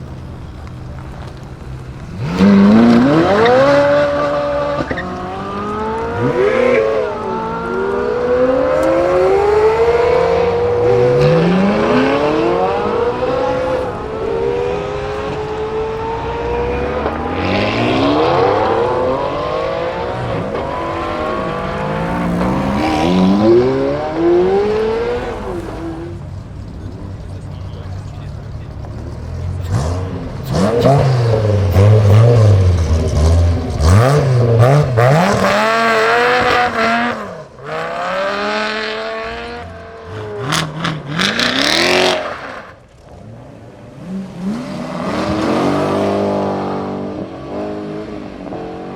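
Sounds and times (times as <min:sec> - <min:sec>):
supercar engines accelerating: 0:00.0 - 0:48.9.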